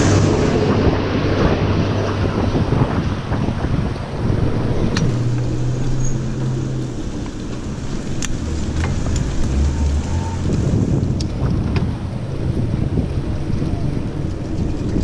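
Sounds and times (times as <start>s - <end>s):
vehicle engine running: 0.0s - 15.0s
wind rushing over microphone: 0.0s - 15.0s.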